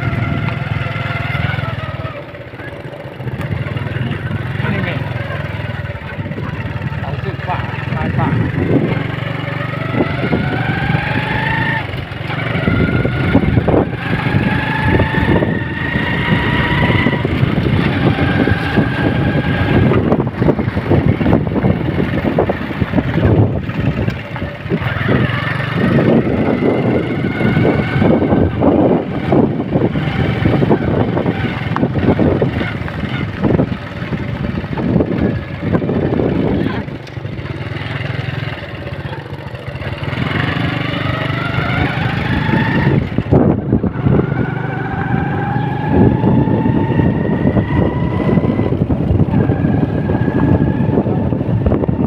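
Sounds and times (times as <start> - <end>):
vehicle engine revving: 0.0 - 52.0.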